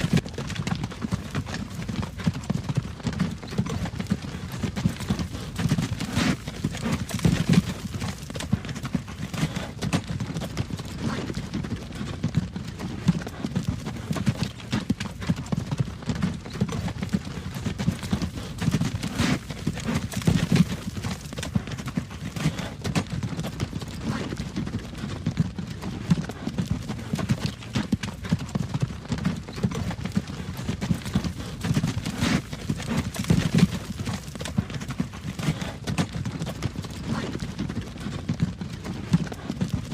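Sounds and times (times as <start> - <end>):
wagon wheels rumbling: 0.0 - 38.8
horse hooves clip-clopping: 0.0 - 39.9.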